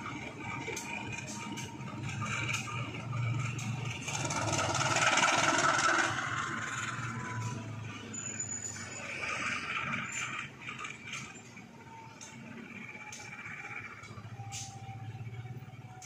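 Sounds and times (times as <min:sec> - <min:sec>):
locomotive engine humming: 0:00.0 - 0:16.0
train rushing noise: 0:00.0 - 0:16.0.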